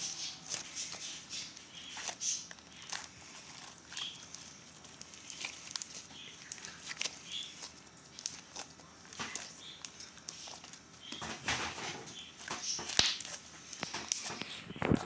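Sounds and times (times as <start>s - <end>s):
small wet clicks and pops: 0.5s - 11.3s, 12.2s - 15.0s.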